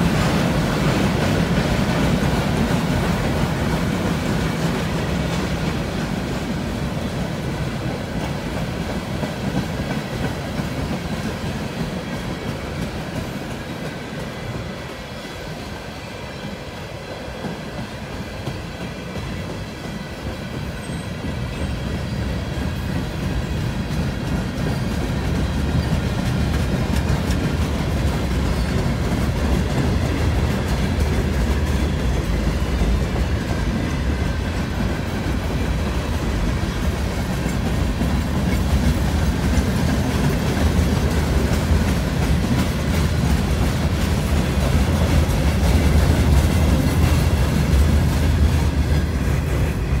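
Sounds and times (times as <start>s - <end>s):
freight train rolling past: 0.0s - 50.0s
steel wheels on rails: 0.0s - 50.0s.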